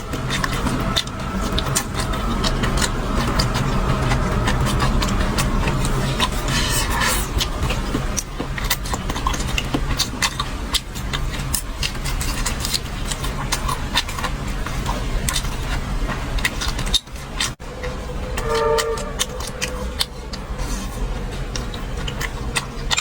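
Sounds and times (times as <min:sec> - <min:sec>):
steady low rumble: 0:00.0 - 0:11.9, 0:12.5 - 0:23.0
chewing and mouth smacking: 0:00.1 - 0:17.6, 0:19.2 - 0:23.0.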